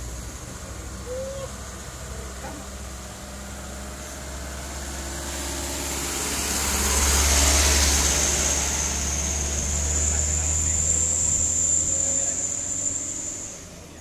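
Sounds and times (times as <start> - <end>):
diesel truck driving by: 0.0 - 14.0.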